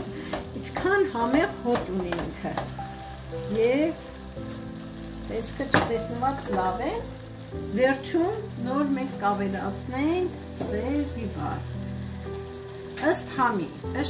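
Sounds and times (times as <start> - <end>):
stir-fry sizzling in a pan: 0.0 - 14.0.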